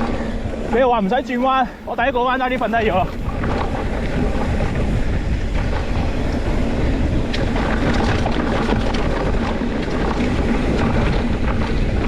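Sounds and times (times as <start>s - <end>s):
tyres crunching on gravel: 0.0s - 12.0s
wind buffeting microphone: 0.0s - 12.0s.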